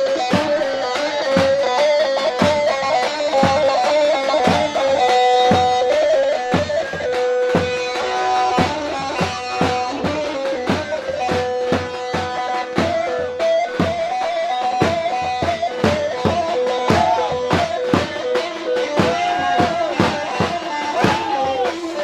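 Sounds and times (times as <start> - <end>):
keyboard drum beat: 0.0 - 22.0
saz playing a melody: 0.0 - 22.0.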